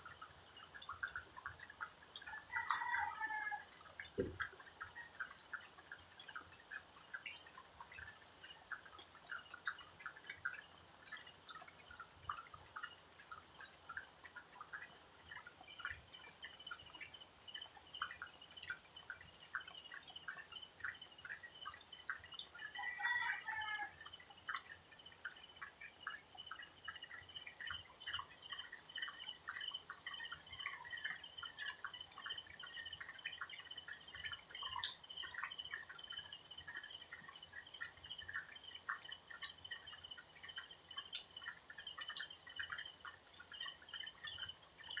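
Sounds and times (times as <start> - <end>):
high insect ticks: 0.0 - 45.0.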